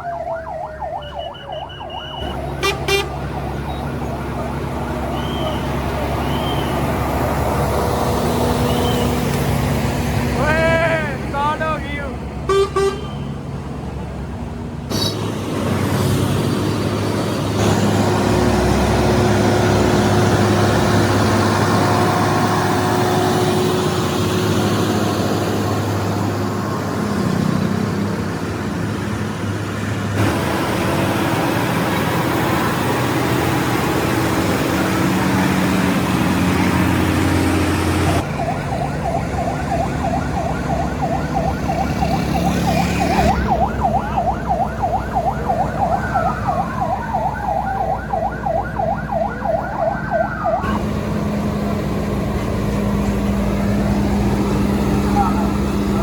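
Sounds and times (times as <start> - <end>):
heavy vehicle engines running: 0.0 - 56.0
loud road and traffic noise: 0.0 - 56.0.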